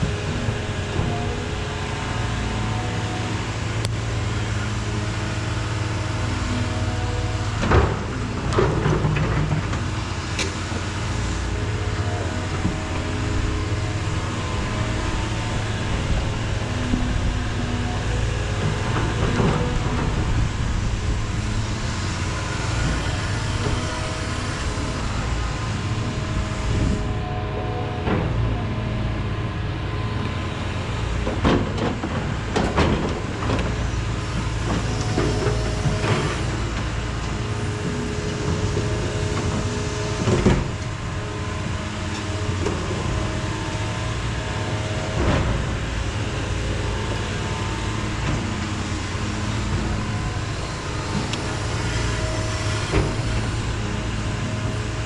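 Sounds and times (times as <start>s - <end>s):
heavy diesel excavator engine: 0.0s - 55.0s.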